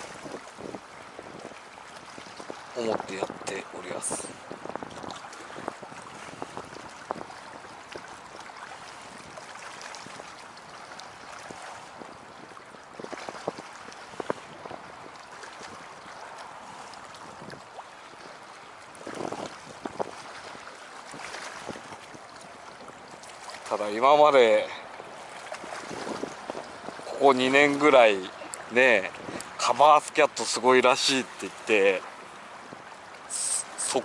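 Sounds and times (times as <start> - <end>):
splashy surges of water: 0.0 - 34.0
water lapping against shore: 0.0 - 34.0.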